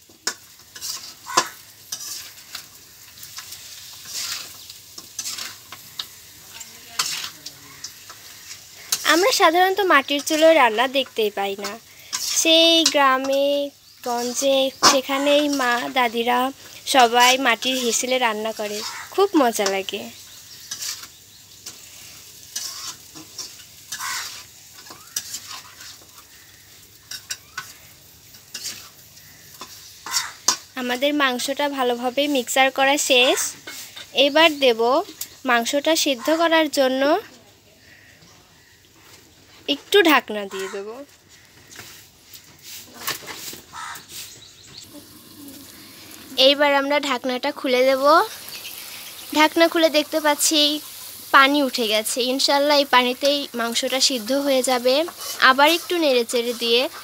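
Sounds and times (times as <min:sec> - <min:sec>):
metal spatula scraping a wok: 0:00.0 - 0:30.8, 0:32.2 - 0:35.4, 0:41.6 - 0:49.5, 0:50.1 - 0:51.4, 0:53.1 - 0:57.0
chicken sizzling in a pan: 0:00.0 - 0:57.0.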